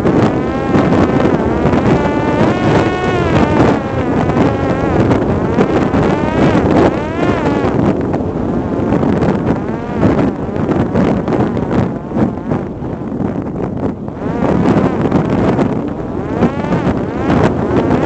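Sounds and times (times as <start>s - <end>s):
electric motor and propeller whining: 0.0s - 18.0s
wind buffeting microphone: 0.0s - 18.0s.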